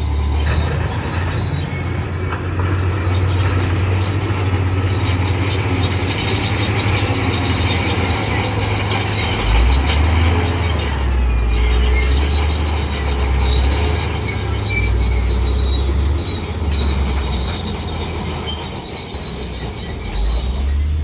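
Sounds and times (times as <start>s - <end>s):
diesel engine rumbling: 0.0s - 21.0s
steel tracks squealing and clattering: 0.0s - 21.0s.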